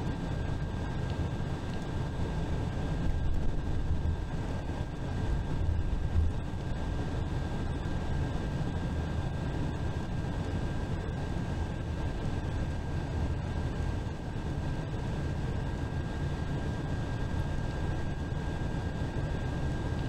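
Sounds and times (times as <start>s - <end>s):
bus engine and road rumble: 0.0s - 20.0s
thin steady whine: 0.0s - 20.0s.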